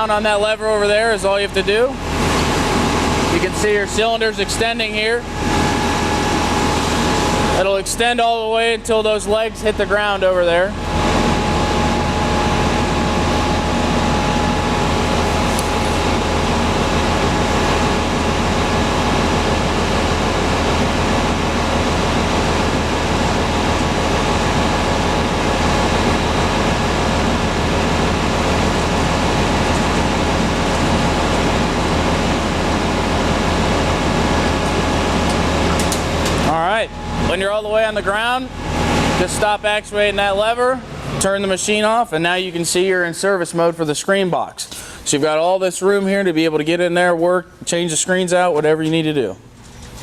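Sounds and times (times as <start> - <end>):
hydraulic whine: 0.0 - 41.5
diesel engine running: 0.0 - 42.8.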